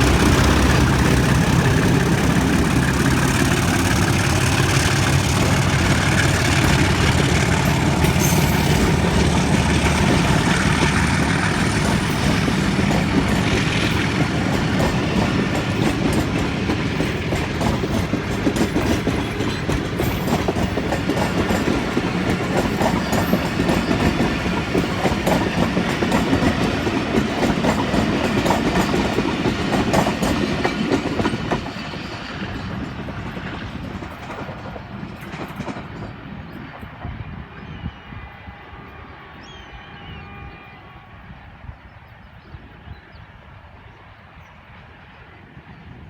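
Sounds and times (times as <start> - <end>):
train wheels clacking over rail joints: 0.0 - 37.2.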